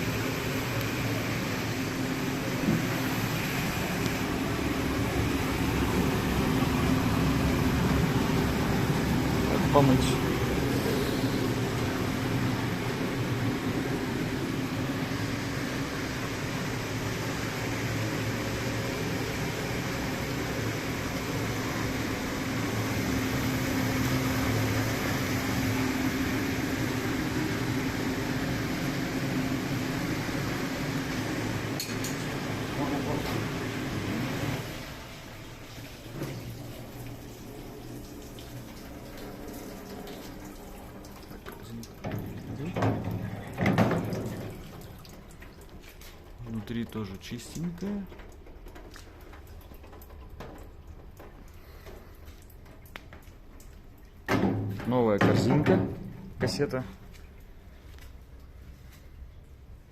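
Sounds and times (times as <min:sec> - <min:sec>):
dishwasher mechanical hum: 0:00.0 - 0:59.9.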